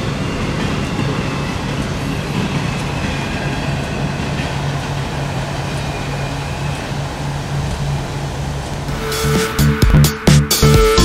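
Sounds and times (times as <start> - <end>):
freight cars rumbling on rails: 0.0 - 10.8.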